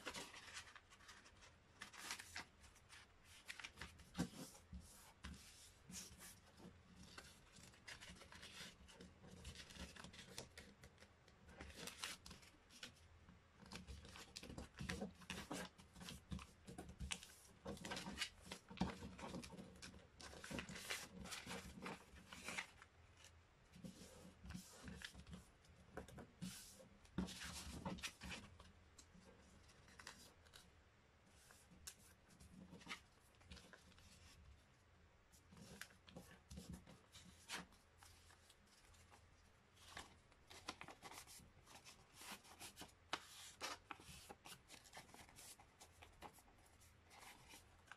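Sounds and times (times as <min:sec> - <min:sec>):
paper rustling and crinkling: 0:00.0 - 0:11.0, 0:11.6 - 0:13.0, 0:13.6 - 0:30.7, 0:35.4 - 0:47.9.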